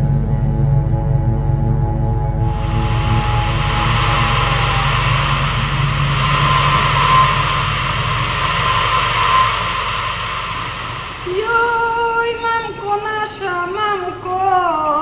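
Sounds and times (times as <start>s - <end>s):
dark ambient drone: 0.0s - 15.0s.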